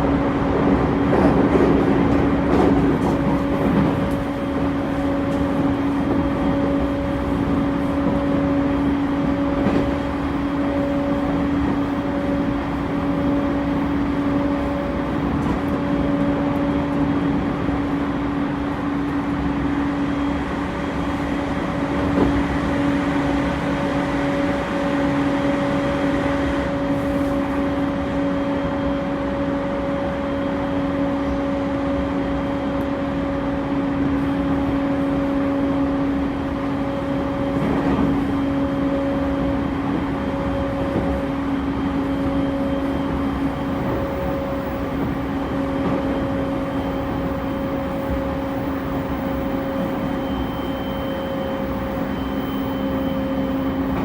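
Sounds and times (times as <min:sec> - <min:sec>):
train wheel and rail noise: 0:00.0 - 0:54.0.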